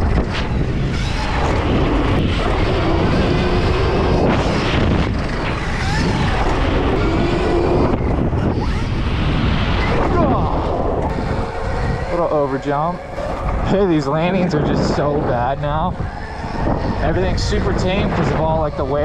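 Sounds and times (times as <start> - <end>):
electric motor whine: 0.0 - 19.0
wind buffeting camera: 0.0 - 19.0.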